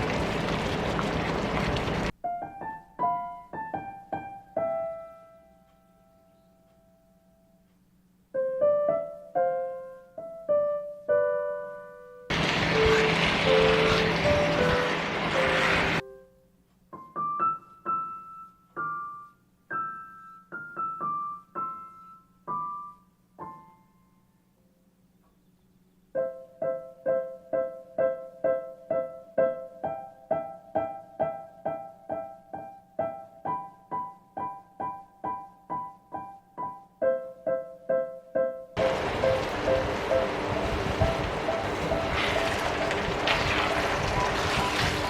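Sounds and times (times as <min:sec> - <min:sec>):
piano music: 0:00.0 - 0:24.6, 0:26.1 - 0:45.0.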